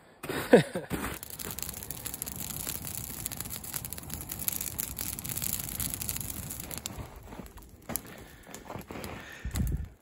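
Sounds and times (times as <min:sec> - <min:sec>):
campfire crackling and popping: 0:01.1 - 0:10.0
flames rushing: 0:01.1 - 0:10.0.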